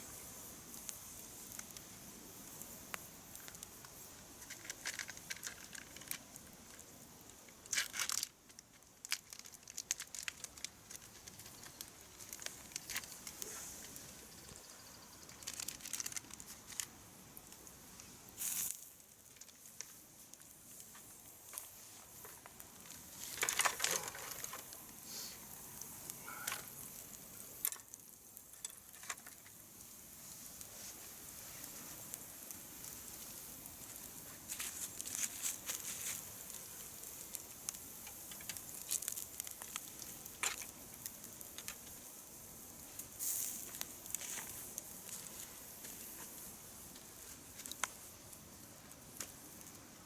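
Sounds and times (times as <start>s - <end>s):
sharp pops and clicks of fire: 0.0s - 50.0s
steady high hiss: 0.0s - 50.0s
wood campfire crackling: 0.0s - 50.0s.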